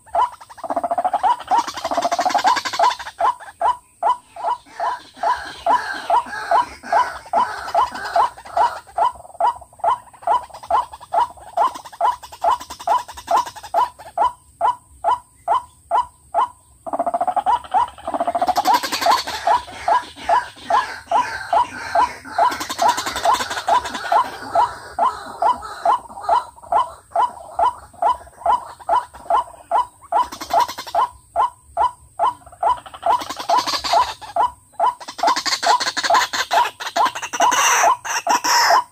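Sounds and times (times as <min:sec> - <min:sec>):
waterhens croaking calls: 0:00.0 - 0:38.9.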